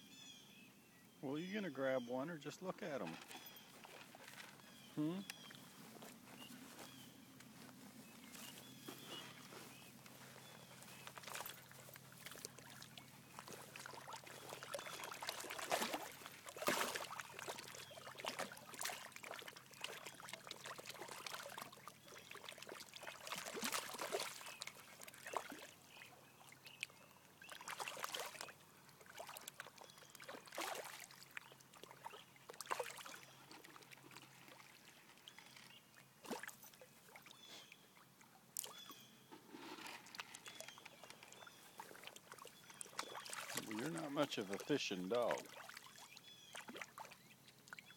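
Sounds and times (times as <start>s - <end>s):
water splashing and sloshing: 2.7s - 47.9s.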